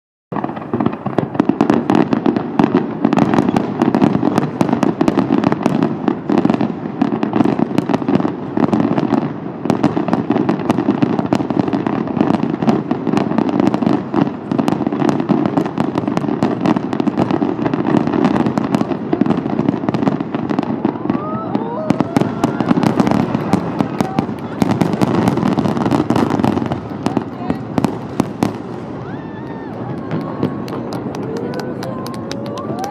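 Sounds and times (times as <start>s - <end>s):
fireworks bursting: 0.3s - 32.9s.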